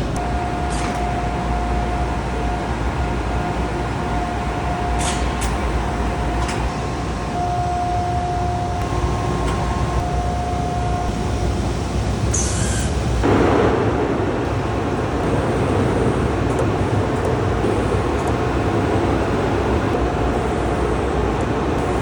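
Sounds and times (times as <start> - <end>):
high even whine: 0.0 - 22.0
machine low rumble: 0.0 - 22.0.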